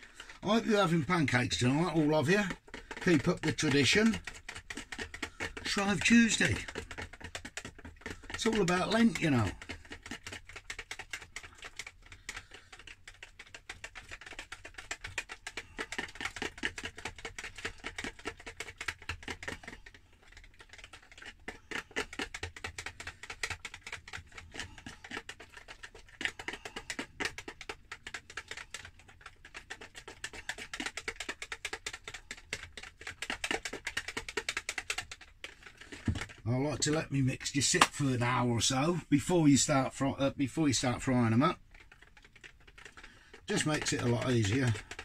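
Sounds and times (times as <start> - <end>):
whisk clicking against plastic bowl: 0.0 - 45.0.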